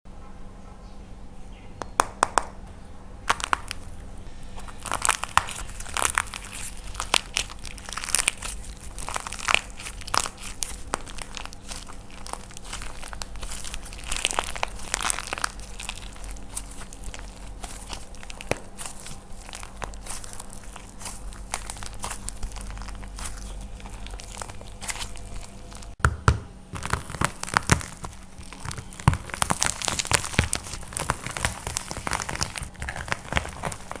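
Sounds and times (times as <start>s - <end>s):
dried clay crunching by hand: 1.8s - 2.6s, 3.2s - 34.0s.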